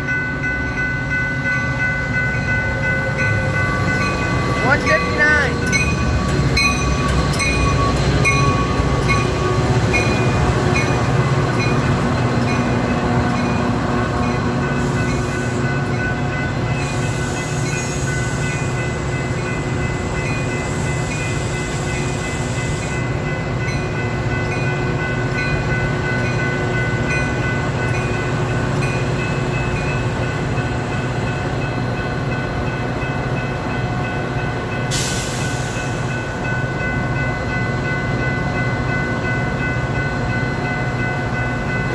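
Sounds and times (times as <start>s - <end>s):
train rumble: 0.0s - 41.9s.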